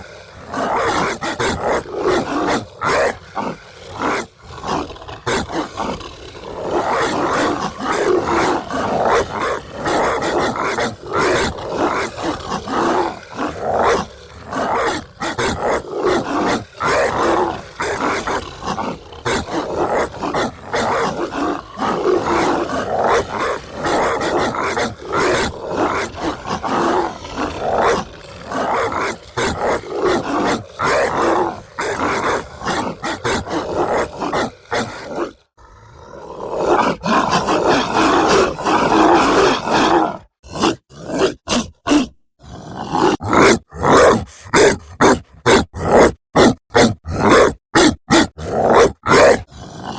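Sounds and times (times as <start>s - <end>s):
dogs snarling and barking: 0.0s - 49.9s.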